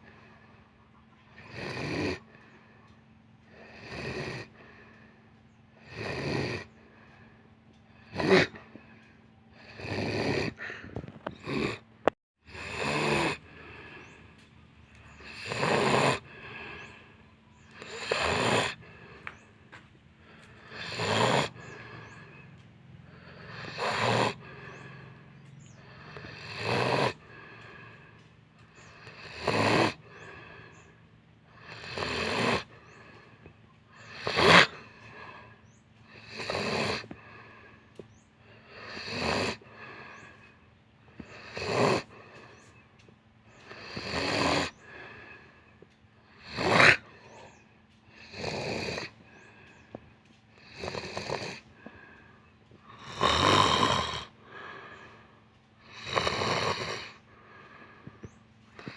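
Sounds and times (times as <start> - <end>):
quiet breathing: 0.0 - 1.5, 2.2 - 3.8, 4.4 - 5.8, 6.6 - 9.8, 10.5 - 12.2, 13.4 - 58.9
person snoring: 1.3 - 2.6, 3.4 - 5.1, 5.7 - 7.3, 8.0 - 19.6, 20.2 - 42.8, 43.6 - 58.9.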